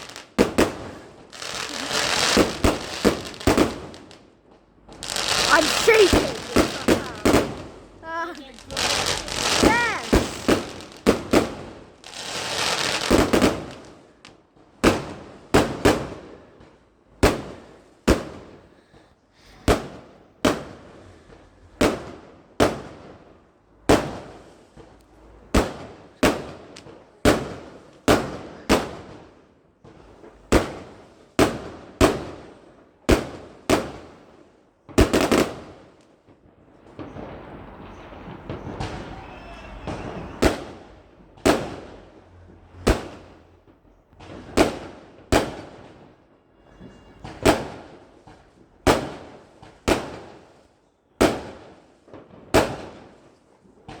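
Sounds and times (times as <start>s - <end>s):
fireworks bangs: 0.0s - 18.7s, 19.6s - 50.6s, 51.2s - 54.0s.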